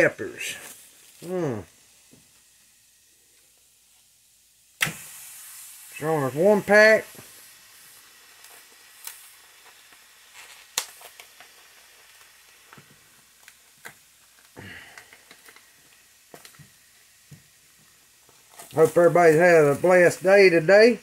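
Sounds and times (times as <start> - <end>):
crackling pops: 0.0 - 21.0
vegetables sizzling in a skillet: 0.0 - 21.0.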